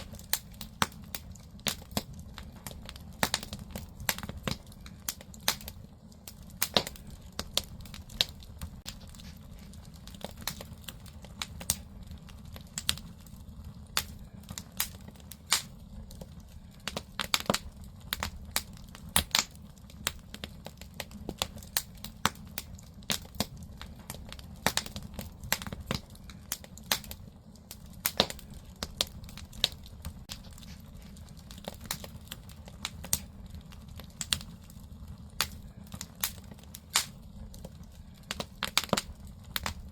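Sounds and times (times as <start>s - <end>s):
firewood crackling and popping: 0.0s - 39.9s
low rumble of fire: 0.0s - 39.9s.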